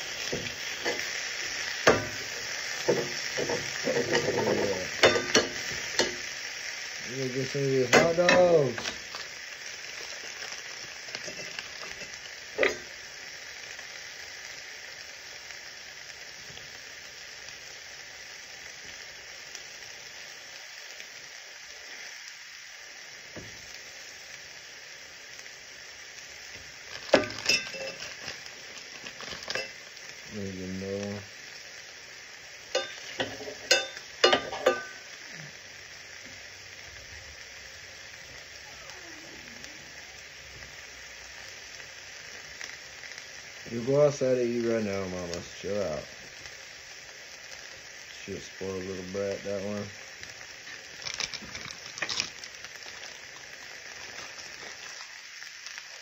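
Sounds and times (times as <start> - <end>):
eggs and vegetables sizzling: 0.0 - 56.0.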